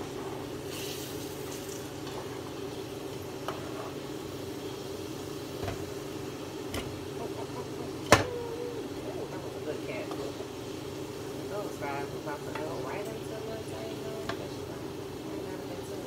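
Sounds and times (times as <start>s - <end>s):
hot oil sizzling in a frying pan: 0.0s - 16.0s
steady hum: 2.1s - 16.0s.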